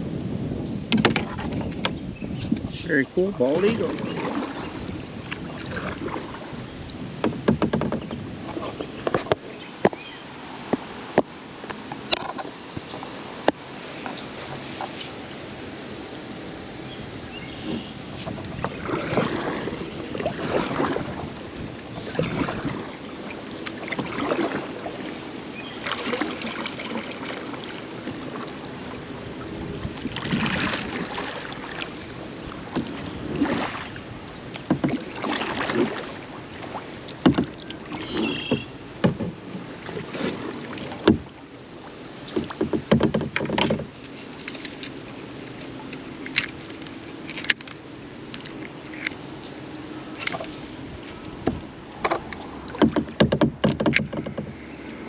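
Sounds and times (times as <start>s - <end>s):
paddle splashing in water: 0.9s - 15.4s, 17.2s - 49.4s, 50.0s - 55.0s.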